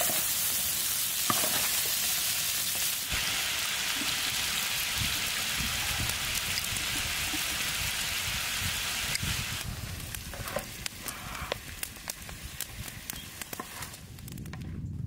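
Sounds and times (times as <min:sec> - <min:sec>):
food sizzling in a frying pan: 0:00.0 - 0:13.9.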